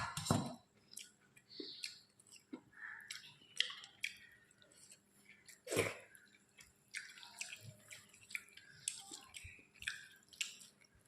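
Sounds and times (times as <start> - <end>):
wet chewing and smacking: 0.0 - 11.0.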